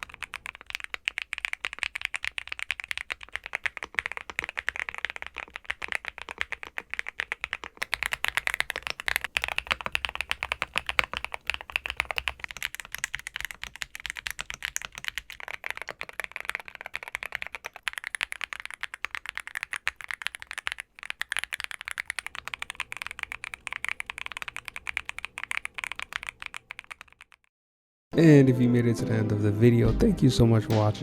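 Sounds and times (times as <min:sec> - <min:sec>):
mechanical keyboard typing: 0:00.0 - 0:27.5.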